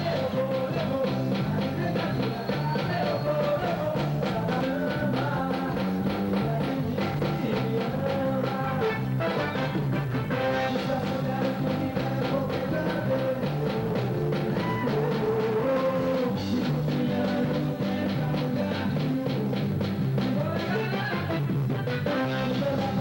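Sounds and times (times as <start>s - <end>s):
band playing music: 0.0s - 23.0s
drum kit beat: 0.0s - 23.0s.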